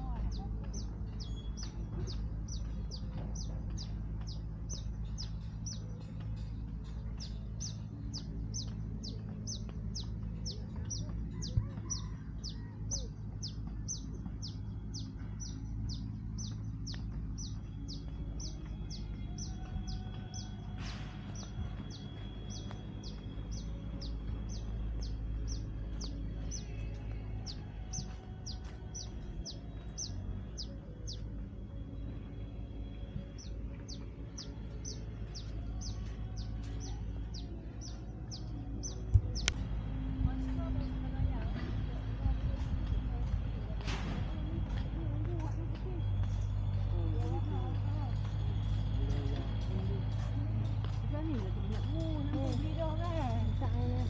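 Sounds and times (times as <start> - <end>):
bird chirping: 0.0 - 54.0
low rumble: 0.0 - 54.0.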